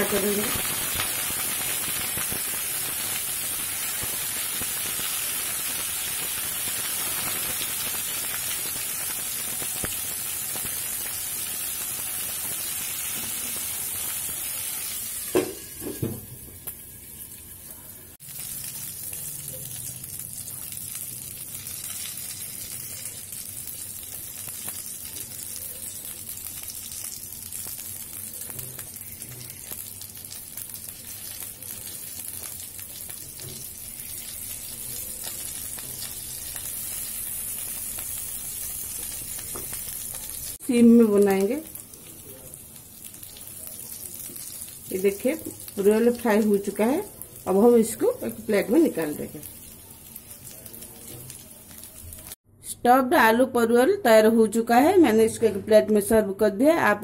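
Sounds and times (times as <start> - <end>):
vegetables sizzling in oil: 0.0 - 52.4.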